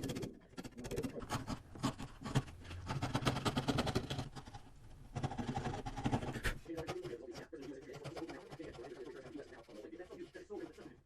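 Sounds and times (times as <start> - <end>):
tool scraping wood: 0.0 - 11.0.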